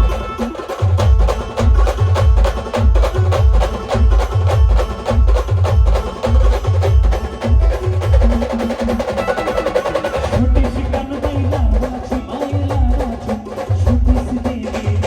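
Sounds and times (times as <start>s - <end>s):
bass drum beats: 0.0s - 15.0s
live band instrumental music: 0.0s - 15.0s.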